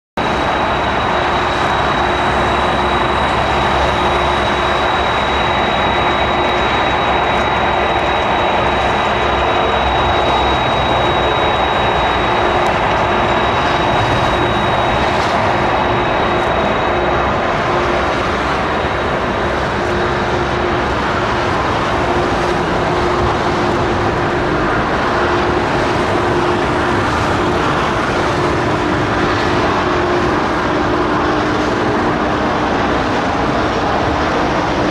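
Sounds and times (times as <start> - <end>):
high-pitched engine whine: 0.2 - 34.9
jet engine roar: 0.2 - 34.9
low steady hum: 0.2 - 34.9.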